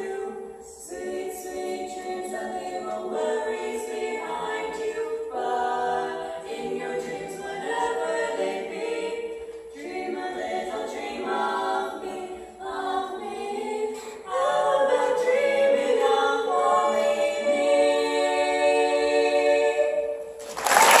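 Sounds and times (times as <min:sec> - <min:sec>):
women singing a cappella harmony: 0:00.0 - 0:20.4.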